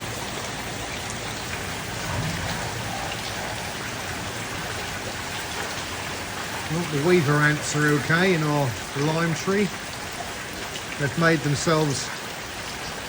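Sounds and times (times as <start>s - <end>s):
rain on leaves: 0.0s - 13.0s.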